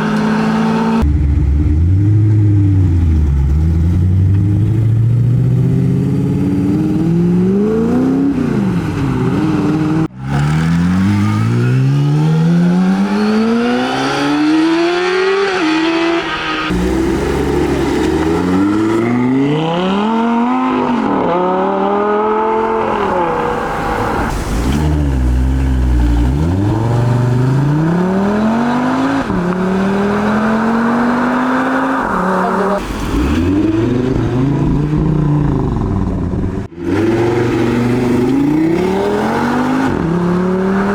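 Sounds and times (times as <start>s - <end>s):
car engines accelerating hard: 0.0s - 40.9s.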